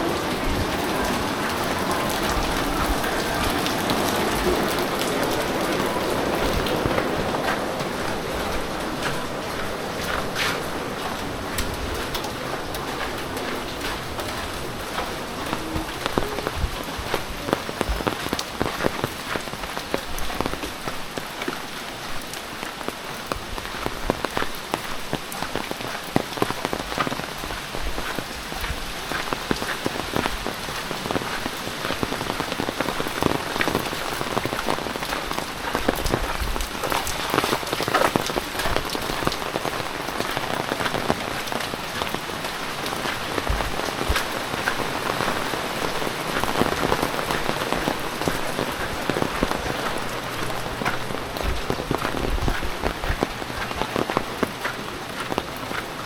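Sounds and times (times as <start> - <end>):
heavy rain on hard surfaces: 0.0 - 56.0.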